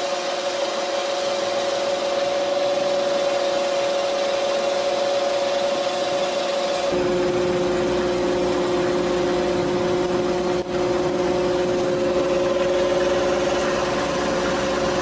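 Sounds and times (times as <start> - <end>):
hydraulic net hauler drone: 0.0 - 15.0.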